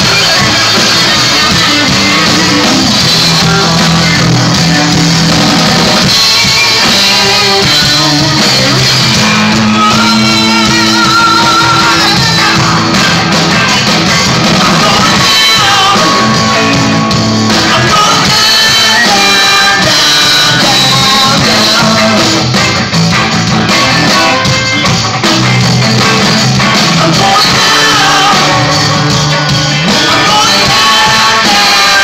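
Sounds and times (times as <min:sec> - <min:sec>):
person singing: 0:00.0 - 0:05.2, 0:06.0 - 0:22.6, 0:26.6 - 0:32.0
live rock band playing: 0:00.0 - 0:32.0.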